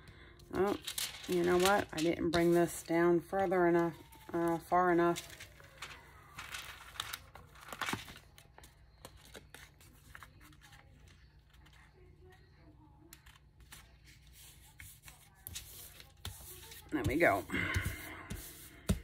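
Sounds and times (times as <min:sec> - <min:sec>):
paper crinkling: 0:00.5 - 0:02.9, 0:03.9 - 0:17.2
paper rustling: 0:00.6 - 0:12.4, 0:13.0 - 0:19.0.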